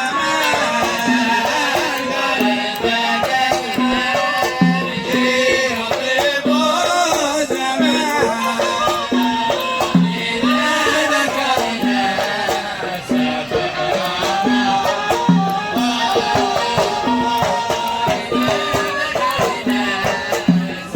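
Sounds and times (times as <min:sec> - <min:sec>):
hand drum beat: 0:00.0 - 0:20.9
live band playing song: 0:00.0 - 0:20.9
rattle-like percussion: 0:00.0 - 0:20.9.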